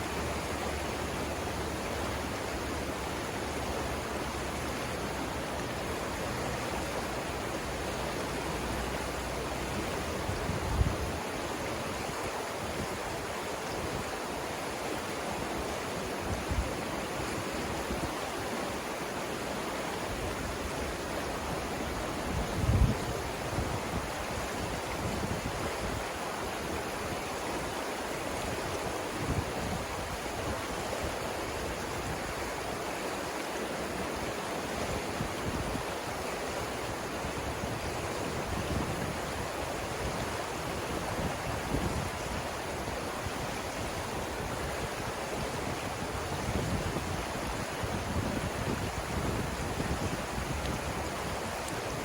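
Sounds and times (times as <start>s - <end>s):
wind rumbling on microphone: 0.0s - 14.4s, 15.4s - 18.7s, 20.0s - 32.9s, 33.9s - 52.0s
river rushing over rapids: 0.0s - 52.0s.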